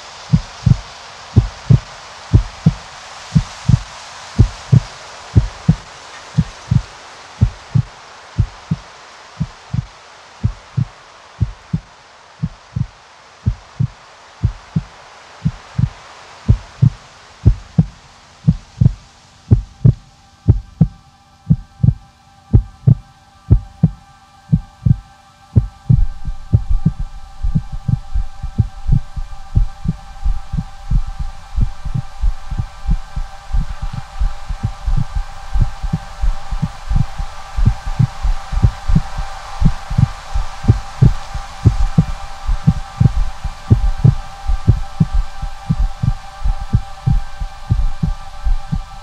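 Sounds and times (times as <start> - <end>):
held chord of steady tones: 0.0 - 49.0
heartbeat-like thumps: 0.3 - 12.9, 13.5 - 25.0, 25.6 - 49.0.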